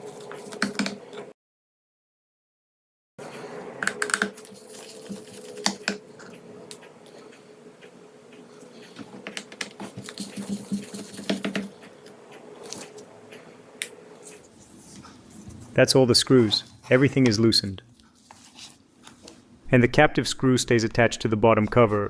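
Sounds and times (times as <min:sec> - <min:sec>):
faint hum: 0:03.2 - 0:22.0.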